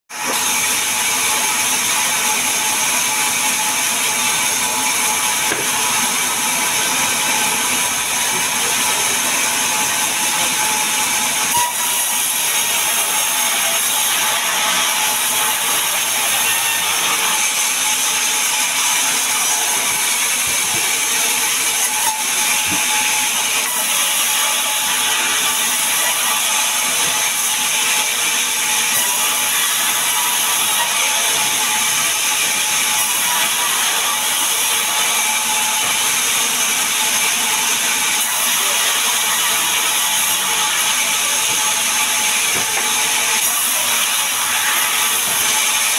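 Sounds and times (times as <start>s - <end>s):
band saw cutting log: 0.1s - 45.9s.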